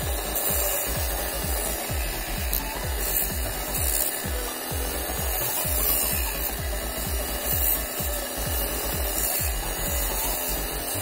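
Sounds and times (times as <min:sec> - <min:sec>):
metal grinding on grinding wheel: 0:00.0 - 0:11.0.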